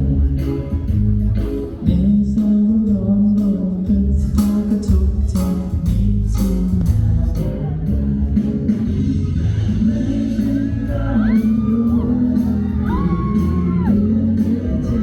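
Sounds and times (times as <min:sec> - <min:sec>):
singer with live band: 0:00.0 - 0:15.0
steady drum beat: 0:00.0 - 0:15.0.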